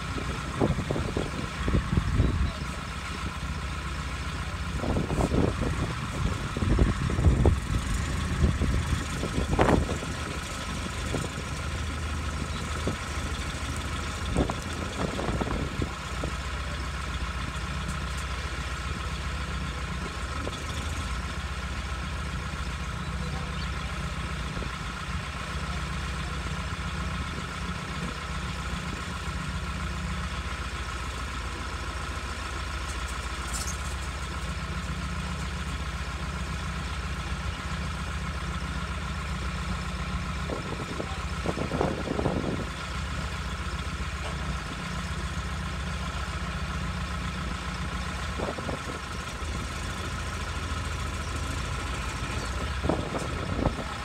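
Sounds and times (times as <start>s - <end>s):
crane engine idling: 0.0s - 54.0s.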